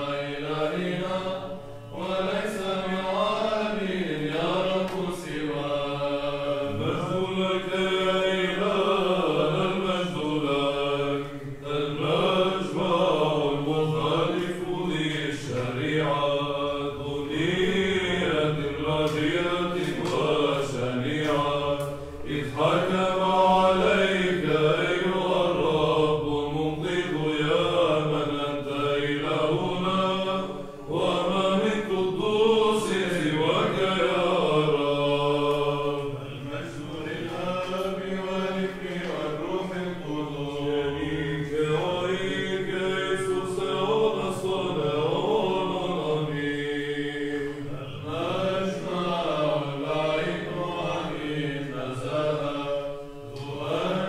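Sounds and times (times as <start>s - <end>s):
low held vocal drone: 0.0s - 54.0s
men chanting a melody: 0.0s - 54.0s.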